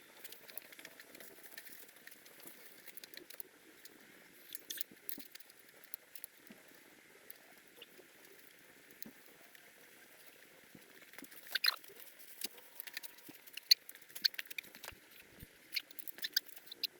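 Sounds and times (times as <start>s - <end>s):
faint steady hiss: 0.0s - 16.9s.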